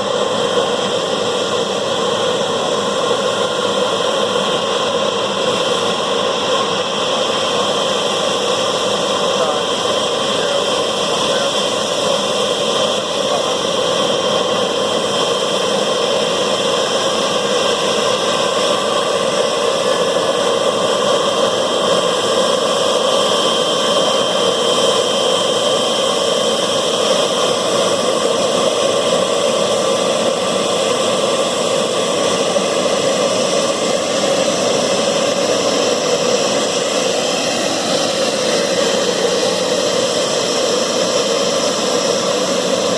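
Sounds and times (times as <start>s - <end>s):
jet engines roaring with high whines: 0.0s - 42.9s.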